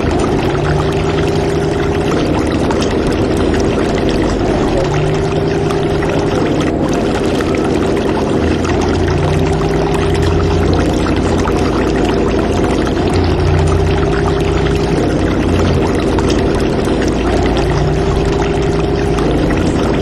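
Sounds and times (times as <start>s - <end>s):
low hum: 0.0s - 20.0s
steady rushing noise: 0.0s - 20.0s.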